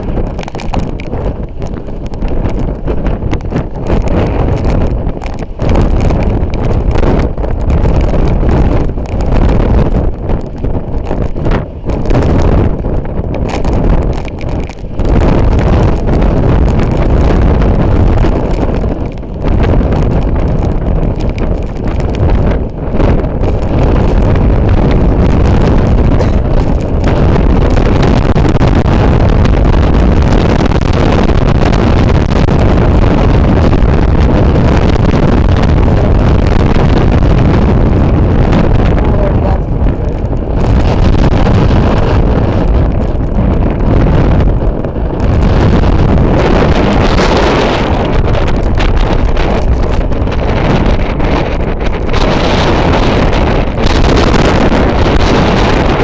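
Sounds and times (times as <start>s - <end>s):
wind buffeting microphone: 0.0s - 56.0s
wind gusts through grass and trees: 0.0s - 56.0s.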